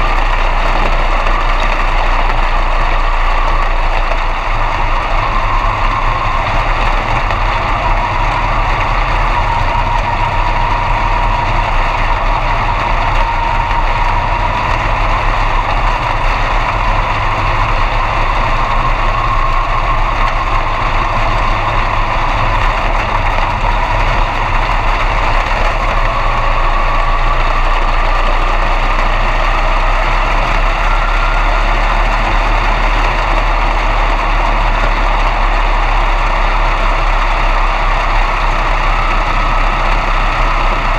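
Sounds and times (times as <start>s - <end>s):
race car engine idling: 0.0s - 40.9s.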